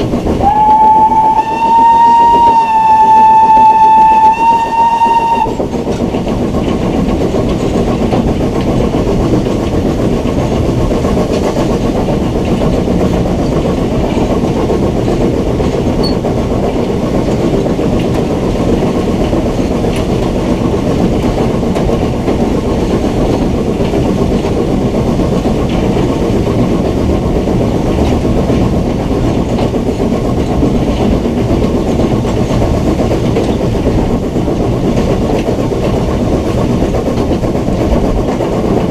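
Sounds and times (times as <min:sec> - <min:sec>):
steam locomotive rumbling and rattling: 0:00.0 - 0:38.9.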